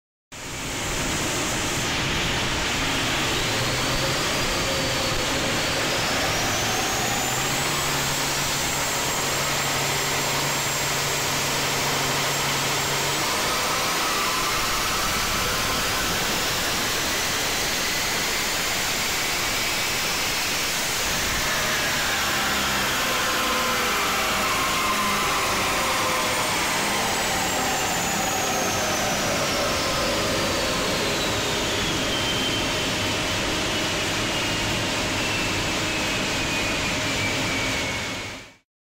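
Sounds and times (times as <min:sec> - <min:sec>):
engine and turbo whine: 0:00.4 - 0:38.6.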